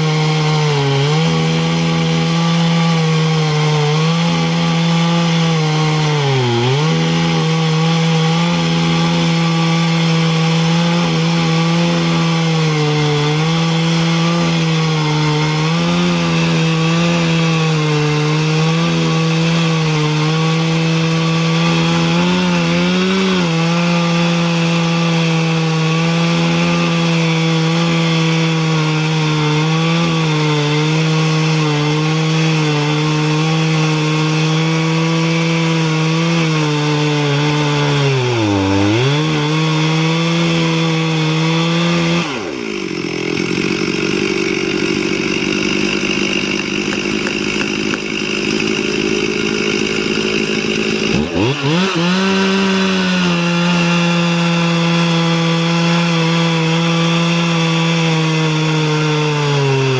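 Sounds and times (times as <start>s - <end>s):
chainsaw cutting through log: 0.0s - 59.9s.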